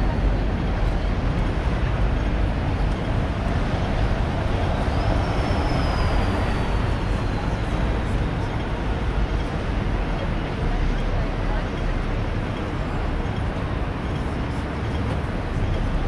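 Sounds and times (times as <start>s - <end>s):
street traffic rumble: 0.0s - 16.0s
tram passing: 0.0s - 16.0s.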